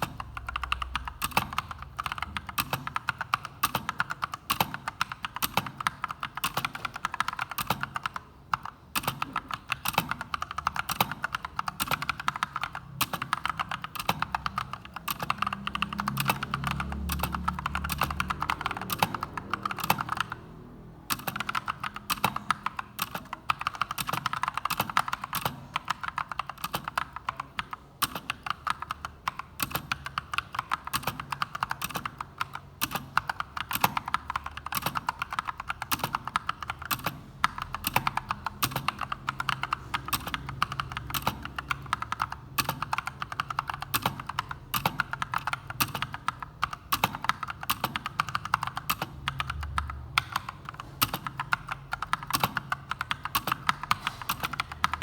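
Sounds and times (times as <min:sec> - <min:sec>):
fast typing on keyboard: 0:00.0 - 0:55.0.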